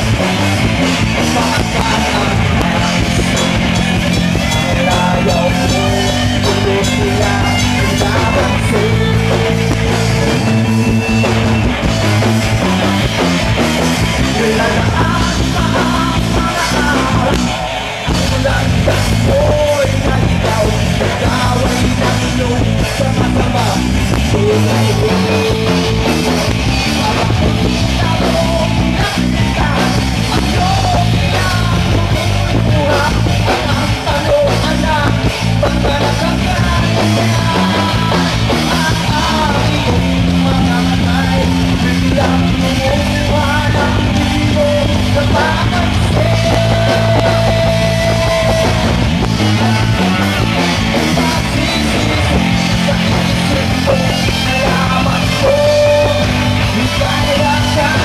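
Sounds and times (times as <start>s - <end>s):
drums: 0.0s - 58.0s
electric guitars: 0.0s - 58.0s
man singing: 0.0s - 58.0s.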